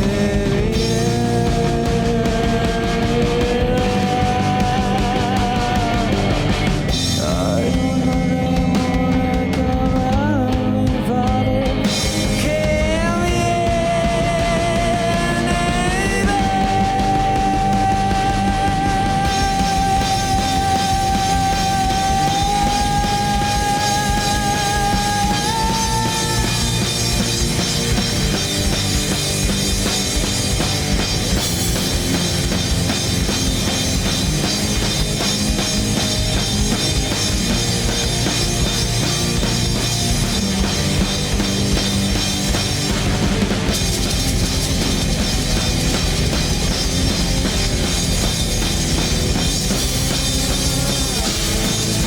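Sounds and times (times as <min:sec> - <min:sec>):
rock band with distortion: 0:00.0 - 0:52.0.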